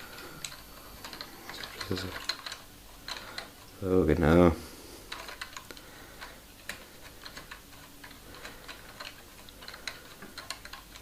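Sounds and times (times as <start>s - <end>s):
plastic gears clicking: 0.0s - 3.7s, 5.1s - 11.0s.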